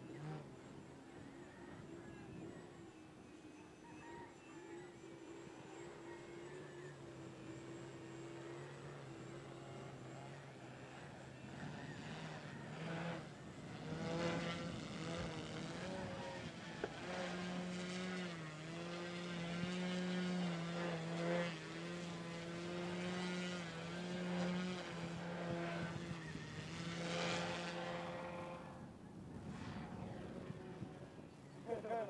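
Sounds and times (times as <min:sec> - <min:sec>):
model plane motor and propeller droning: 0:00.0 - 0:32.0.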